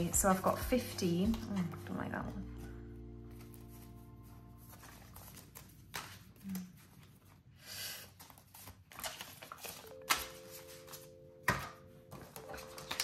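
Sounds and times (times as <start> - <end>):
banknotes rustling and flicking: 0.0 - 13.0.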